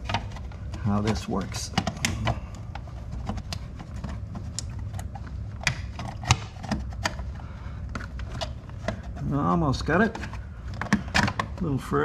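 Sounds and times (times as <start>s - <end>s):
plastic parts clicking and scraping: 0.0s - 11.7s.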